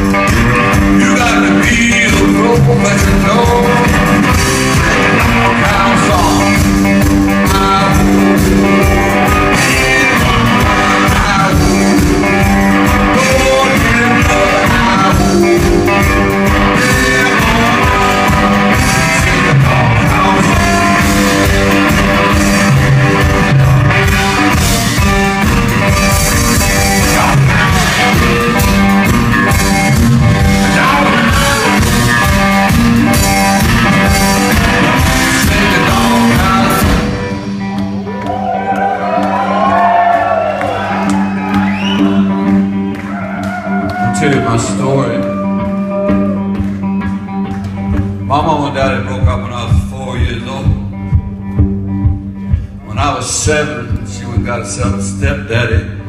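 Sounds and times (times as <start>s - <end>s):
pounding drum beat: 0.0s - 39.9s, 45.6s - 56.0s
electric guitar riff: 0.0s - 56.0s.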